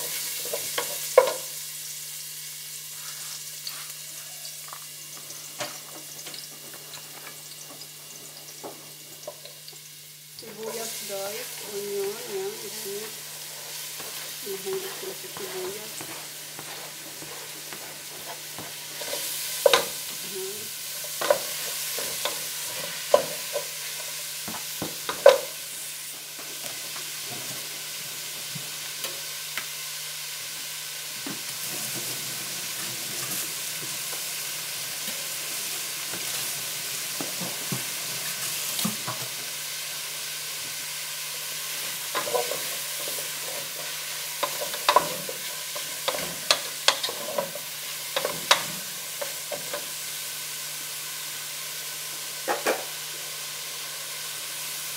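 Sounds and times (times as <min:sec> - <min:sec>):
onion sizzling in a pot: 0:00.0 - 0:54.9.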